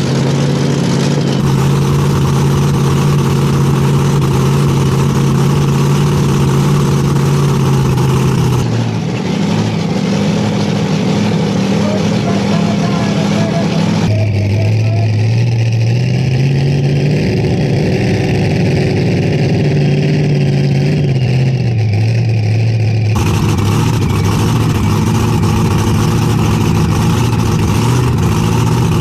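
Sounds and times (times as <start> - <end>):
tractor engine idling and revving: 0.0 - 29.0.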